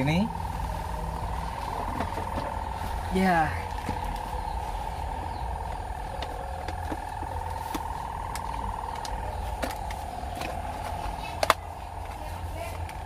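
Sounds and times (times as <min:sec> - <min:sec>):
fluttering buzzing tone: 0:00.0 - 0:13.0.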